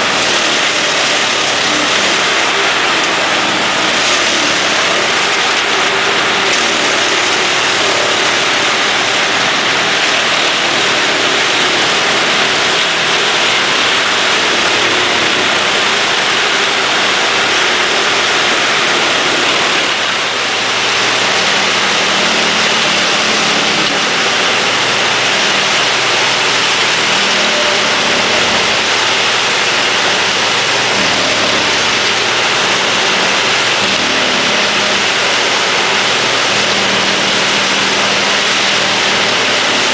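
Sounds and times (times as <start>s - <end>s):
diesel engines running: 0.0s - 39.9s
wood chipper working: 0.0s - 39.9s.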